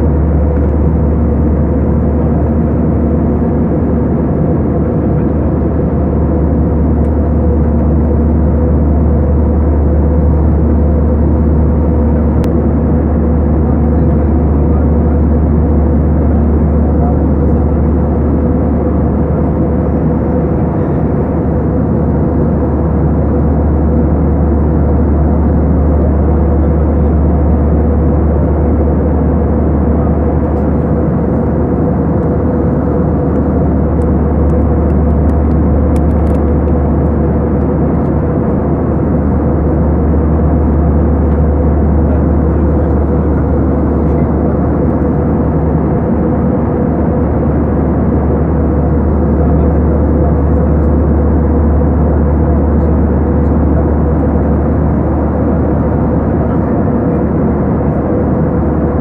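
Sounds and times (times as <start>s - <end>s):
airliner engine rumble: 0.0s - 59.0s.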